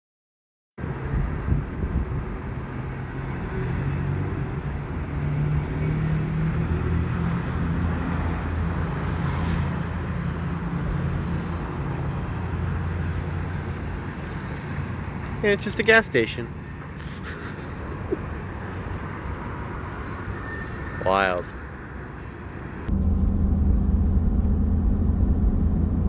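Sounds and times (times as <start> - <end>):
car engine hum: 0.8 - 26.0
road noise: 0.8 - 26.0.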